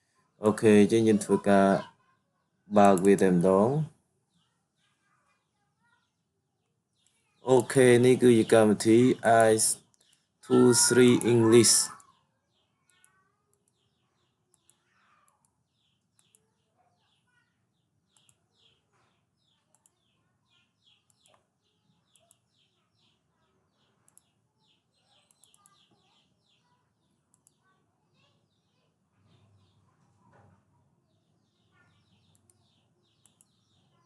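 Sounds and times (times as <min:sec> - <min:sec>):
birds chirping: 0:00.0 - 0:02.1, 0:02.7 - 0:05.0, 0:05.8 - 0:34.0.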